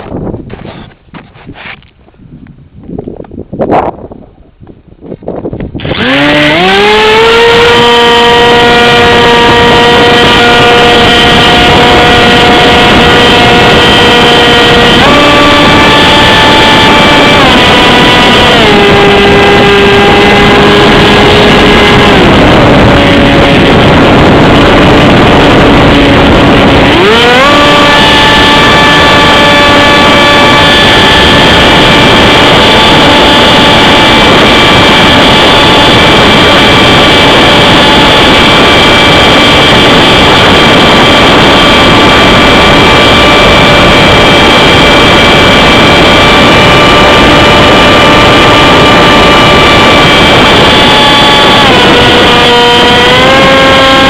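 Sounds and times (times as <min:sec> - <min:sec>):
wind noise on microphone: 0:00.0 - 0:54.0
model plane motor whining: 0:05.8 - 0:54.0.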